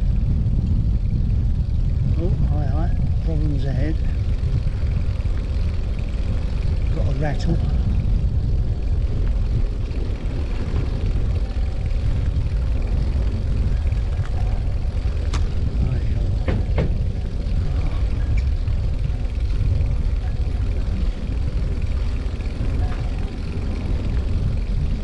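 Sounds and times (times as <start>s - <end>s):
bicycle rattling clicks: 0.0s - 25.0s
wind and tyre noise: 0.0s - 25.0s.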